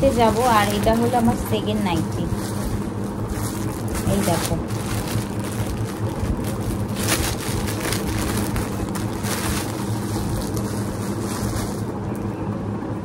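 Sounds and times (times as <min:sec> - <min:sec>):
plastic packaging crinkling: 0:00.0 - 0:12.0
steady rushing hum: 0:00.0 - 0:13.0.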